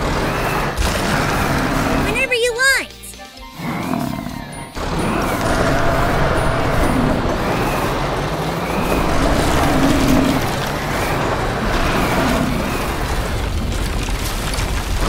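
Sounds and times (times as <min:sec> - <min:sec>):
background music: 0:00.0 - 0:13.7
cartoon bulldozer engine and tracks: 0:00.0 - 0:15.0.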